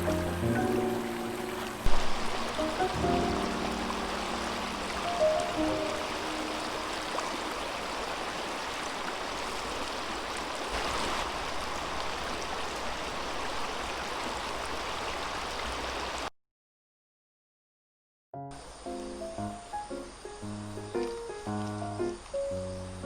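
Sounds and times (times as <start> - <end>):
creek water running over stones: 0.0 - 16.3, 18.6 - 23.0.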